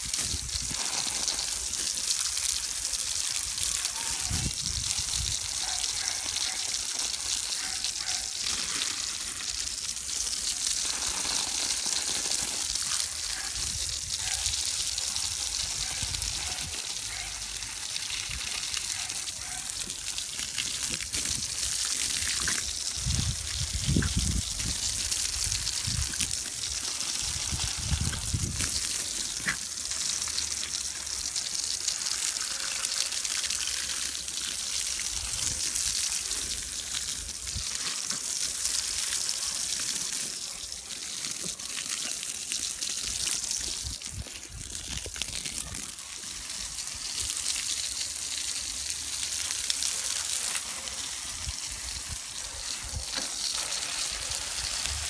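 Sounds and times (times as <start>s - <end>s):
hose spraying water on grass: 0.0s - 55.0s.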